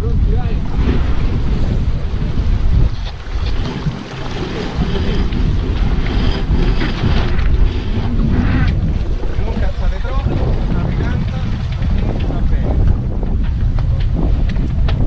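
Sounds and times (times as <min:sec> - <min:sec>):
water rushing past hull: 0:00.0 - 0:14.9
wind buffeting microphone: 0:00.0 - 0:15.0.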